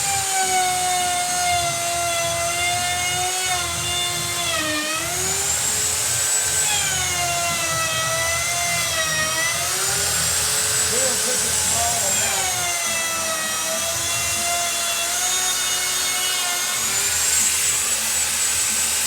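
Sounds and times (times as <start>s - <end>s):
electric wood router whining: 0.0s - 19.0s.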